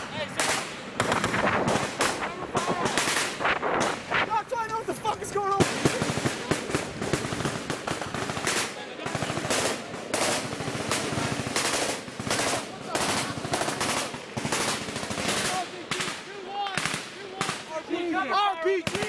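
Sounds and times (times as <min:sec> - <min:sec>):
rapid automatic gunfire: 0:00.0 - 0:04.3, 0:05.4 - 0:17.8.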